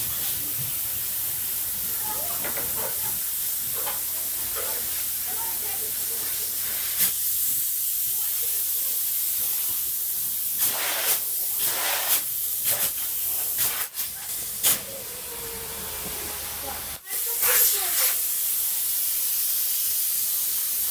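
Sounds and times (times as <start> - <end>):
spray foam gun hissing: 0.0 - 20.9.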